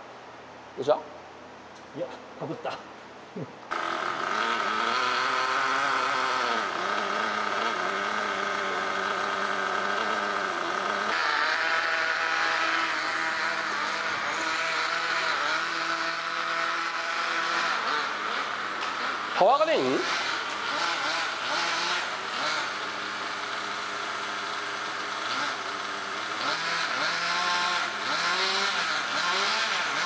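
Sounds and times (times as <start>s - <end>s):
nitro engine revving: 3.7s - 30.0s.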